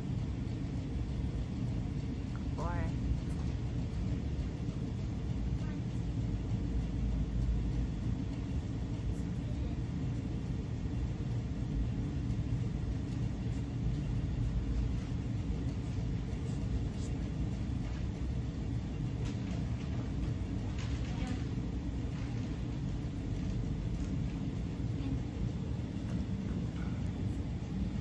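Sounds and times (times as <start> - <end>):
low room rumble: 0.0 - 28.0.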